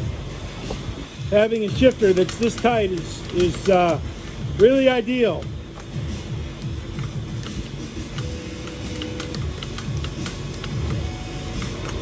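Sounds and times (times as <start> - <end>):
background music with low beat: 0.0 - 12.0
light clicking percussion: 0.6 - 4.8, 5.4 - 12.0.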